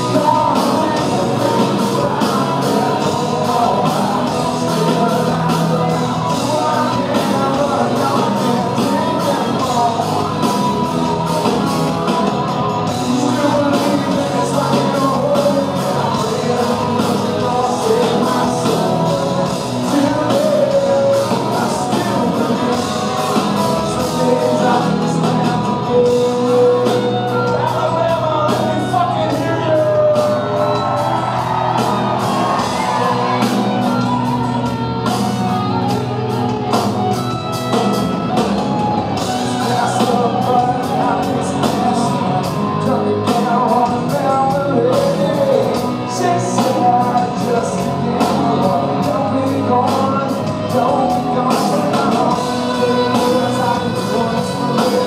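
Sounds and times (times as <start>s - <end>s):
drums: 0.0s - 55.0s
electric guitars: 0.0s - 55.0s
man singing: 0.0s - 55.0s.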